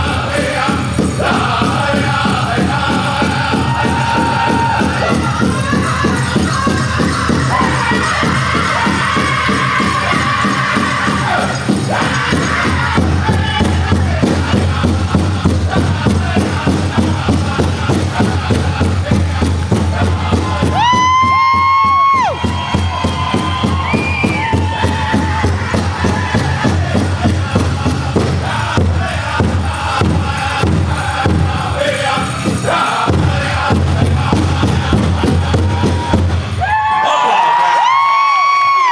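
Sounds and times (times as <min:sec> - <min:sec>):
group singing: 0:00.0 - 0:21.0, 0:22.2 - 0:36.6
fast steady big drum beat: 0:00.0 - 0:37.0.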